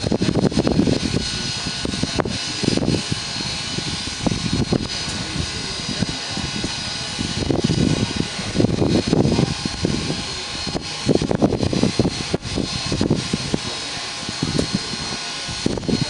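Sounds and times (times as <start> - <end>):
faint steady whine: 0.0 - 16.0
low rumbles: 0.0 - 16.0
steam hissing: 0.0 - 16.0.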